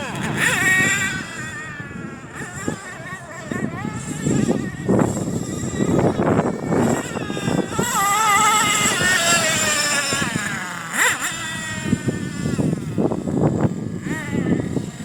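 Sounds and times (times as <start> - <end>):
model truck engine revving: 0.0 - 15.0.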